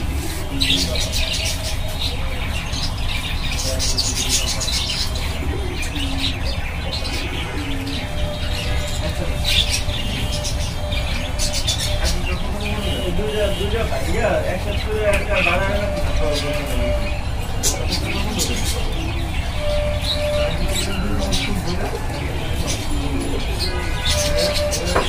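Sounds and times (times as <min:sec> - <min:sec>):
budgerigars chirping and chattering: 0:00.0 - 0:25.0.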